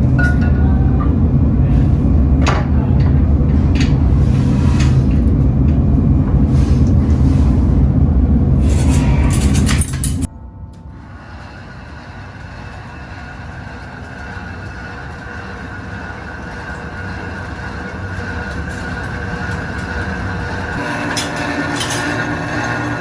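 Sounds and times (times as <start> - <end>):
factory machinery rumbling hum: 0.0 - 23.0
lower hum: 0.0 - 23.0.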